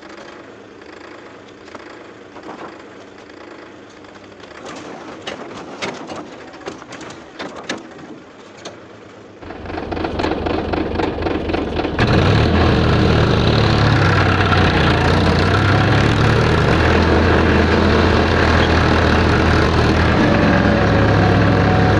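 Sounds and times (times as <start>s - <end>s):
tractor diesel engine running: 0.0s - 5.5s, 6.4s - 21.9s.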